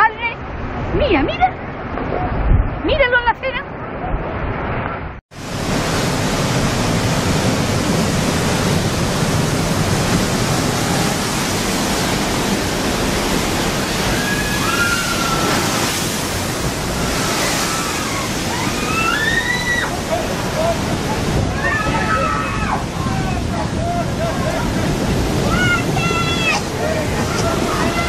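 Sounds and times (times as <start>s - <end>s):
wind on microphone: 0.4s - 28.0s
surf breaking: 3.8s - 28.0s.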